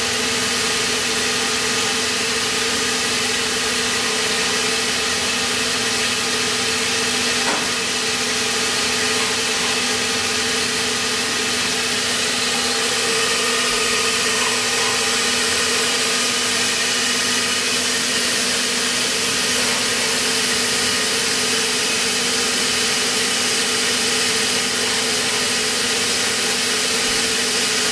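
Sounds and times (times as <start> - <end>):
milling machine humming: 0.0 - 27.9.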